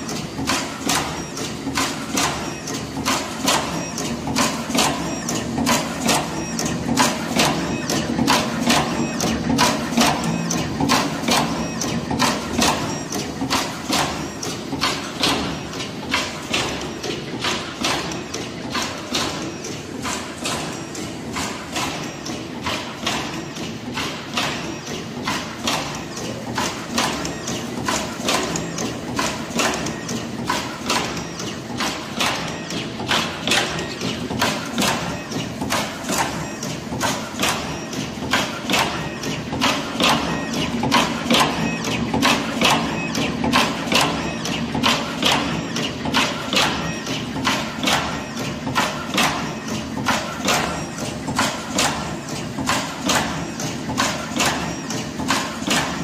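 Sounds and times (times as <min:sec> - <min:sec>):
sharp mechanical clacks: 0:00.0 - 0:56.0.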